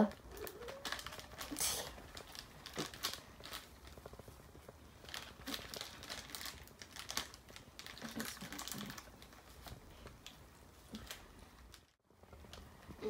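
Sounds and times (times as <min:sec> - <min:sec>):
plastic snack bag crinkling: 0:00.0 - 0:12.8.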